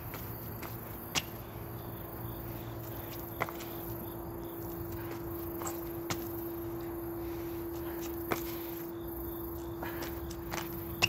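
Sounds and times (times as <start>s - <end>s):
hands and feet tapping on paving: 0.0s - 11.0s
steady hum: 0.0s - 11.0s.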